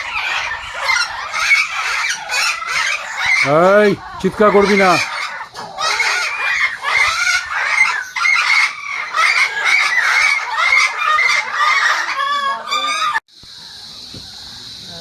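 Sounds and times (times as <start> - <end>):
bird squawking: 0.0 - 13.2
birds chattering: 0.0 - 15.0.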